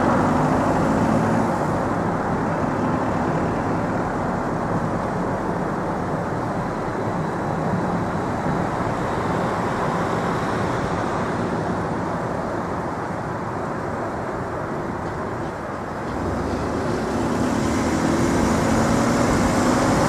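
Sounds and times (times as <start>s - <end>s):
car road noise from inside: 0.0s - 20.0s.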